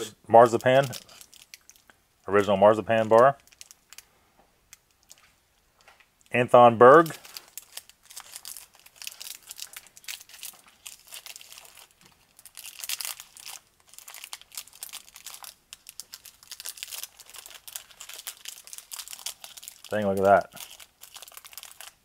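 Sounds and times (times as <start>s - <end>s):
foil wrapper crinkling and tearing: 0.4s - 4.1s, 6.9s - 22.0s.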